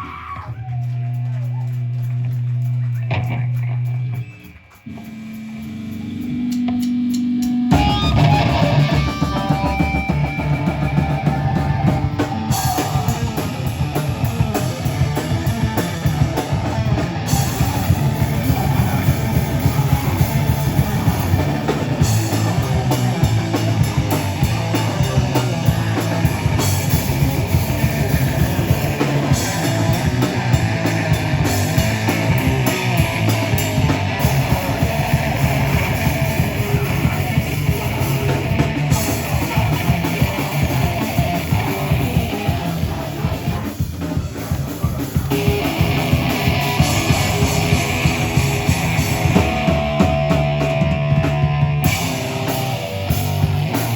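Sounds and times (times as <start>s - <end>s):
heavy rock band playing live: 0.0s - 53.9s.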